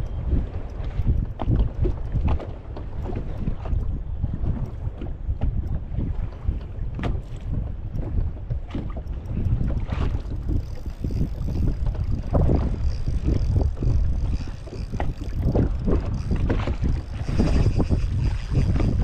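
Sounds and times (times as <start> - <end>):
waves slapping boat hull: 0.0 - 19.0
wind buffeting microphone: 0.0 - 19.0.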